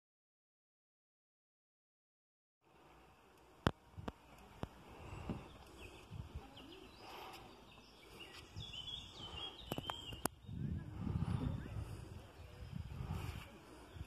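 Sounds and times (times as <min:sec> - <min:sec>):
birds chirping: 0:02.7 - 0:14.0.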